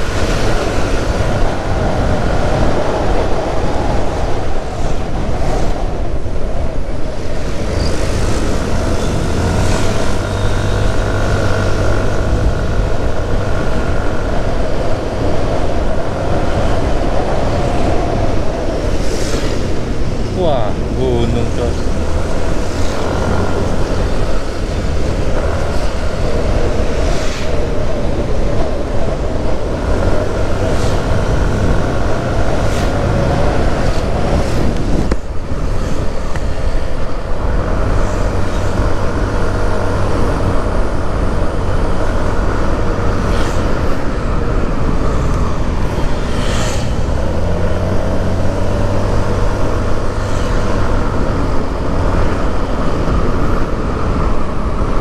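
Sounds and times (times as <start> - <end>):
motorcycle engine humming: 0.0 - 55.0
wind noise on microphone: 0.0 - 55.0.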